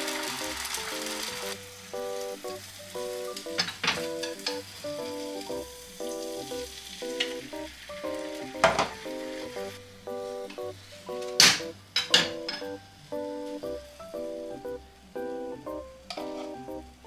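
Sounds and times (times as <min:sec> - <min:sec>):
egg sizzling in a pan: 0:00.0 - 0:17.0
soft background music: 0:00.0 - 0:17.0.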